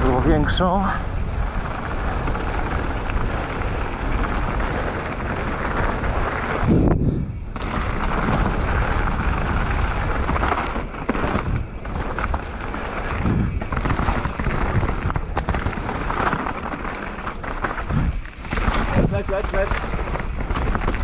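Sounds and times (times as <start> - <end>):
bike clicks and rattles: 0.0 - 21.0
bike tyres rumbling on dirt: 0.0 - 21.0
wind buffeting microphone: 0.0 - 21.0.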